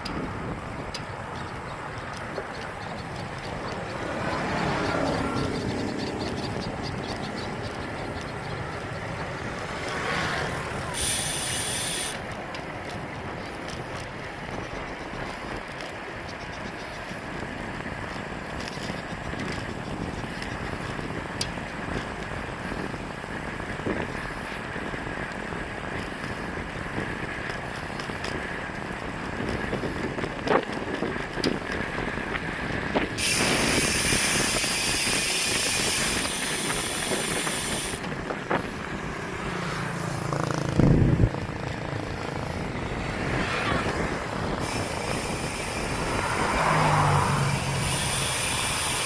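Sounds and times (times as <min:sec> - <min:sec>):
bike rolling noise: 0:00.0 - 0:49.0.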